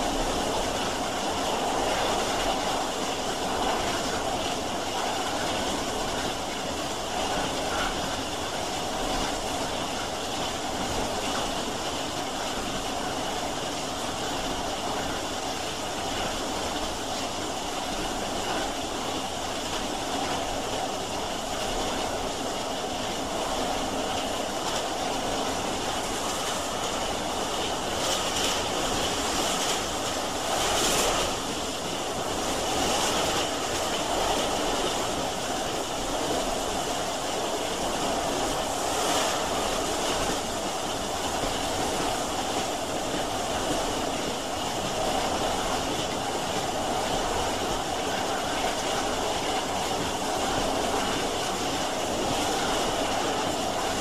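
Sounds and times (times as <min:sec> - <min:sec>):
steam train running: 0:00.0 - 0:54.0.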